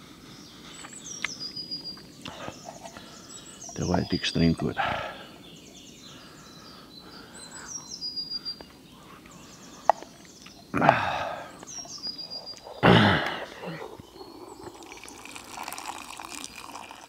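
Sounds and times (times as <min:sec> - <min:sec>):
songbirds trilling: 0:00.0 - 0:17.0.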